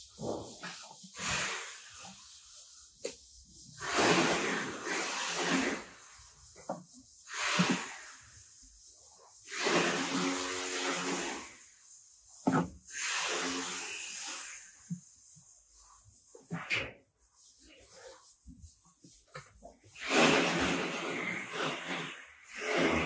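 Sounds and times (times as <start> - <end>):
trowel scraping powdery mix: 0.0 - 23.0.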